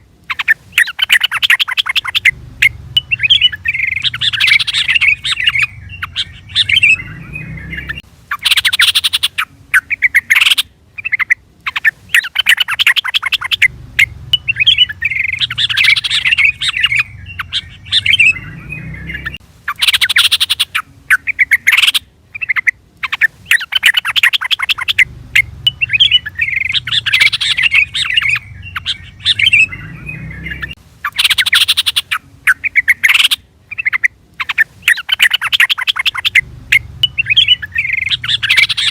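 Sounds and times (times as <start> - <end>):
bird chattering call: 0.3 - 38.9.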